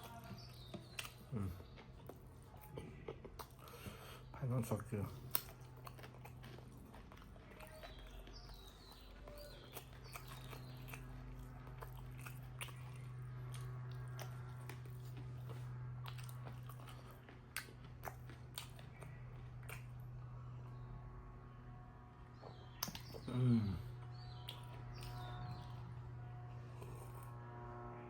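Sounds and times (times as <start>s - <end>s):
close-up chewing and biting: 0.0s - 21.2s, 22.2s - 27.6s
steady low hum: 0.0s - 28.0s.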